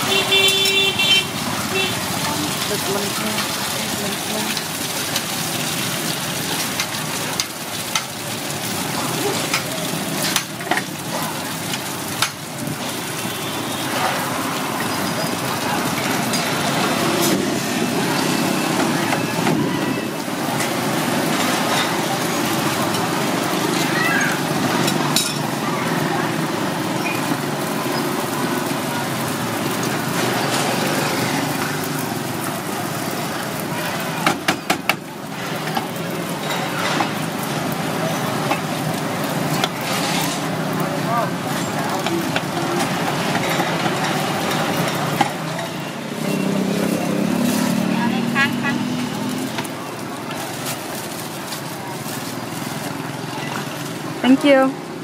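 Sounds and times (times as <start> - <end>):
fritters deep-frying in oil: 0.0 - 55.0.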